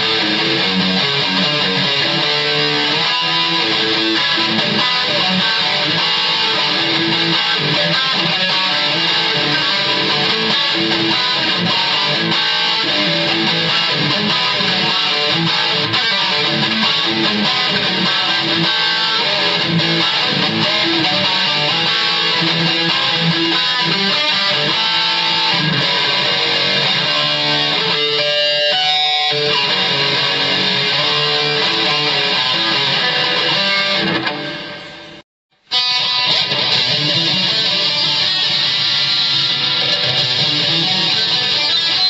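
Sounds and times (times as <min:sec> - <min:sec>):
electric guitar with effects: 0:00.0 - 0:42.0.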